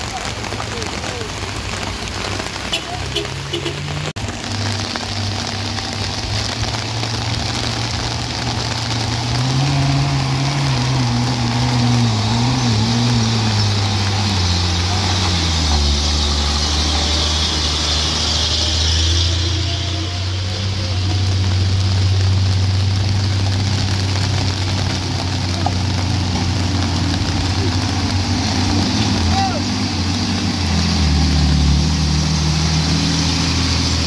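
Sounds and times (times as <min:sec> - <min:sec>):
vehicle engine labouring uphill: 0:00.0 - 0:34.0.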